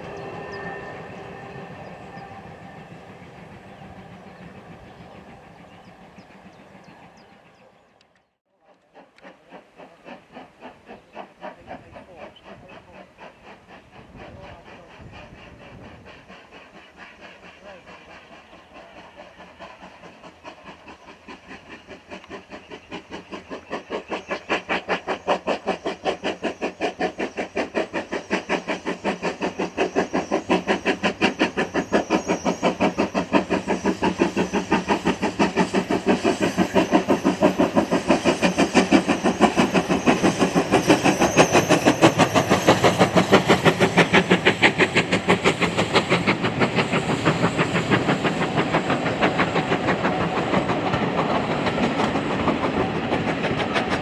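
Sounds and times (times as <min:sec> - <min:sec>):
steam locomotive exhaust beats: 0:00.0 - 0:07.8, 0:08.6 - 0:54.0.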